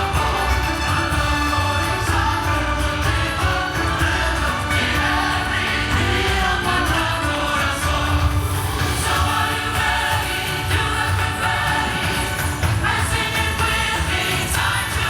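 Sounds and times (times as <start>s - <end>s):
music with beat and vocals: 0.0s - 15.0s.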